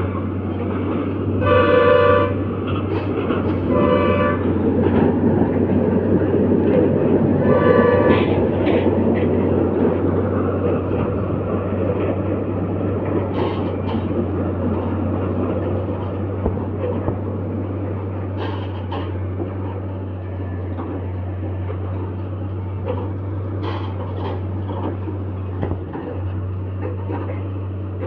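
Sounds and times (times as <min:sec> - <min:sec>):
constant low hum: 0:00.0 - 0:28.0
diesel engine rumble: 0:00.0 - 0:28.0.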